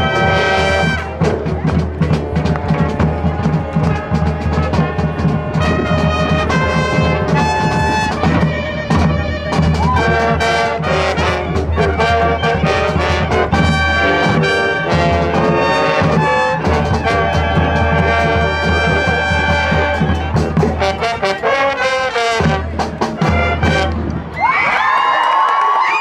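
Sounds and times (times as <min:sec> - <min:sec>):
percussion beat: 0:00.0 - 0:24.2
brass carrying tune: 0:00.0 - 0:24.3.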